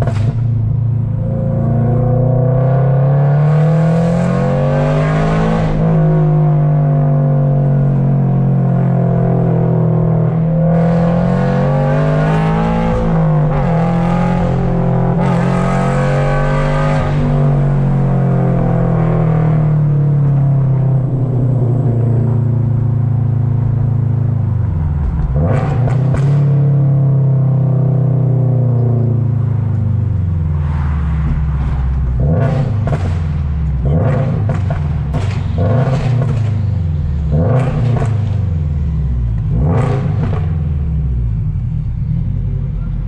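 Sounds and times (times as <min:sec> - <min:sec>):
car exhaust revving: 0:00.0 - 0:43.0.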